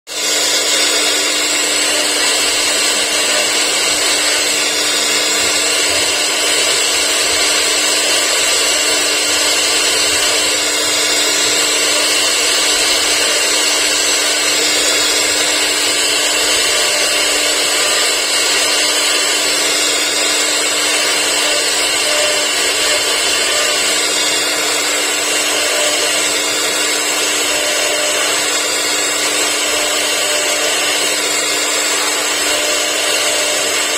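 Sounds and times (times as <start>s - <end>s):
router spindle cutting wood: 0.1s - 33.9s.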